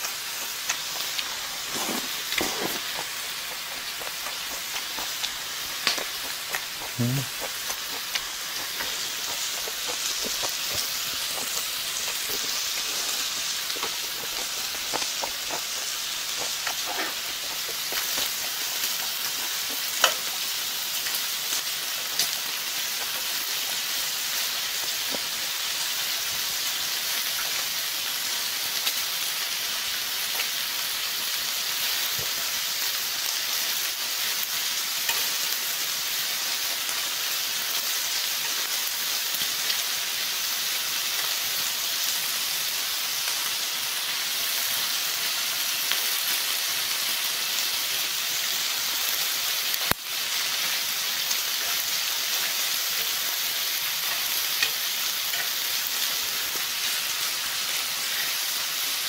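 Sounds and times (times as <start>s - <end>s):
meat sizzling on a griddle: 0.0s - 59.0s.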